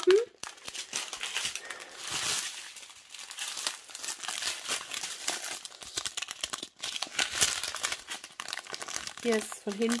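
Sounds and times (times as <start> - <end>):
plastic bags crinkling: 0.0 - 10.0
small beads rattling: 0.1 - 10.0.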